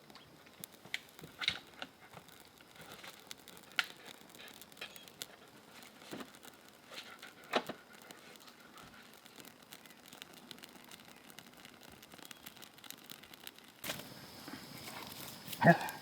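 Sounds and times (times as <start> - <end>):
kindling crinkling and snapping: 0.0 - 16.0.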